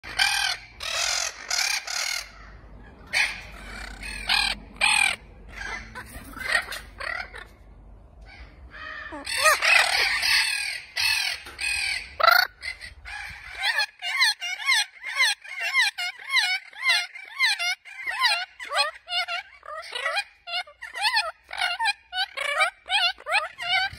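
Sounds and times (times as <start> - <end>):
macaws screeching: 0.0 - 7.6, 8.2 - 23.9.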